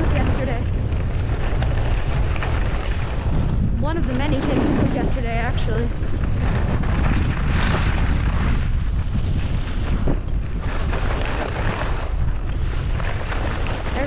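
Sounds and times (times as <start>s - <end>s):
skis scraping on packed snow: 0.0s - 14.0s
wind buffeting microphone: 0.0s - 14.0s.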